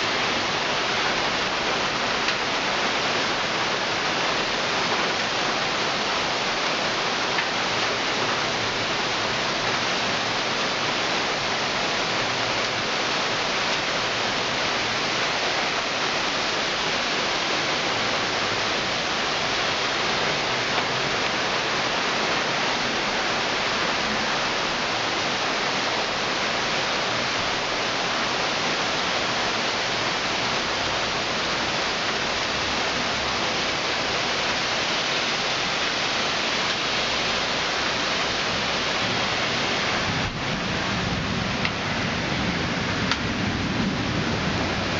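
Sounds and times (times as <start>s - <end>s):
heavy rain hiss: 0.0s - 44.9s.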